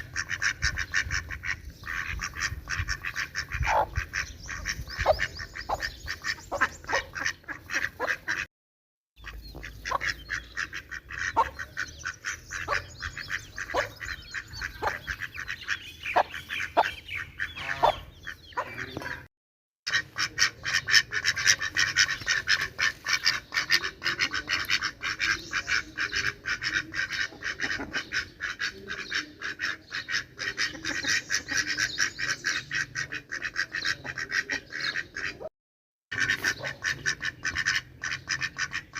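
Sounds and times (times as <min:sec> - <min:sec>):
ducks quacking: 0:00.0 - 0:08.5, 0:09.2 - 0:19.3, 0:19.9 - 0:35.5, 0:36.1 - 0:38.9.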